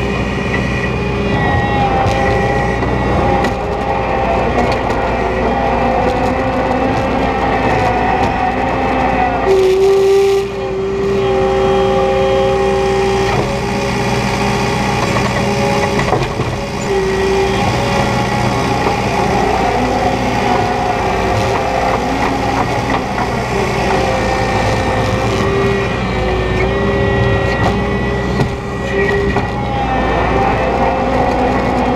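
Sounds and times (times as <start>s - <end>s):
diesel engine running under load: 0.0s - 31.9s
hydraulic whine: 0.0s - 31.9s.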